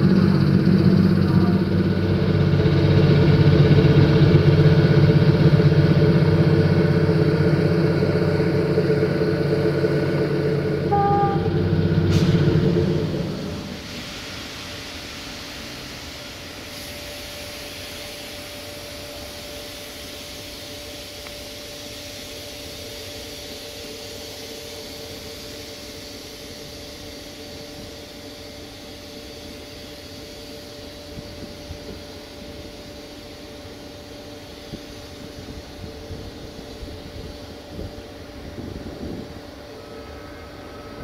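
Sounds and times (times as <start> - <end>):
locomotive whirring drone: 0.0 - 17.2, 18.0 - 41.0.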